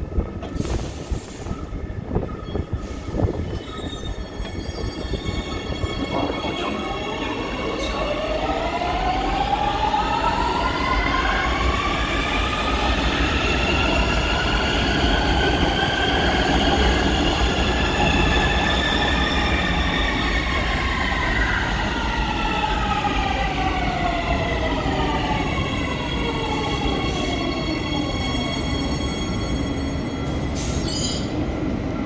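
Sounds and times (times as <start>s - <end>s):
train rumbling on track: 0.0s - 32.0s.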